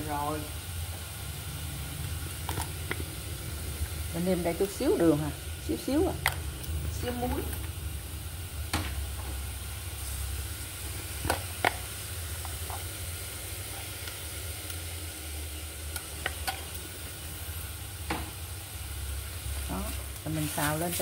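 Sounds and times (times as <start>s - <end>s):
coconut sizzling in a frying pan: 0.0s - 21.0s
steady low hum: 0.0s - 21.0s.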